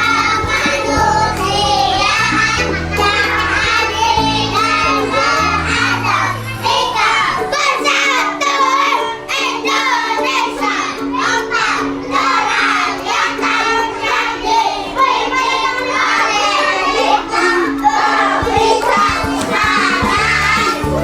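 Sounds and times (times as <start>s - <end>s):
musical accompaniment with bass: 0.0s - 21.0s.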